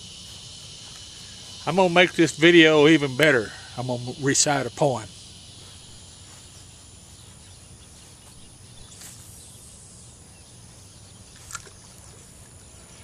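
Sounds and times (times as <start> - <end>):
faint birds: 0.0 - 13.0
faint insects: 0.0 - 13.0
soft high hiss: 0.0 - 13.0.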